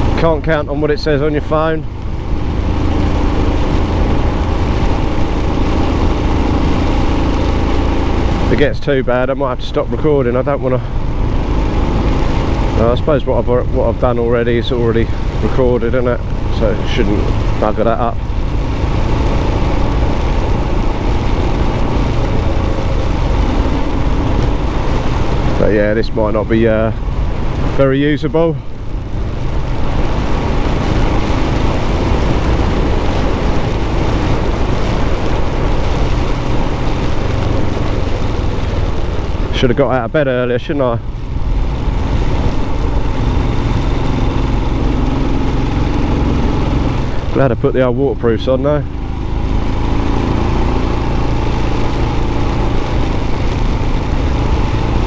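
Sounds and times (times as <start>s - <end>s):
motorcycle engine running: 0.0s - 55.0s
wind and rain noise on microphone: 0.0s - 55.0s.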